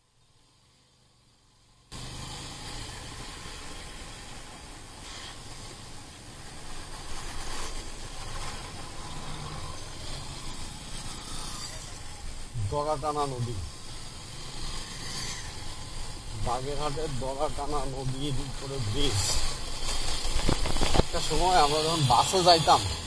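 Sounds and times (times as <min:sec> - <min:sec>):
wind and road noise: 0:00.0 - 0:23.0
motorcycle engine running: 0:00.2 - 0:23.0.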